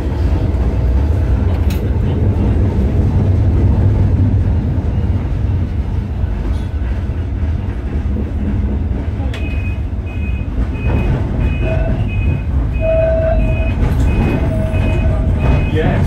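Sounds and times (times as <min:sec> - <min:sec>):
tram wheels and motors rumbling: 0:00.0 - 0:16.0.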